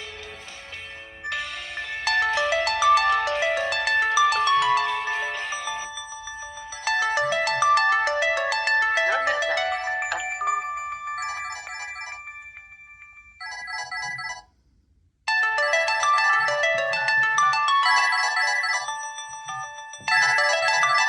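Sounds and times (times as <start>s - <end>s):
mobile phone ringtone melody: 0.2s - 14.5s, 15.3s - 21.0s.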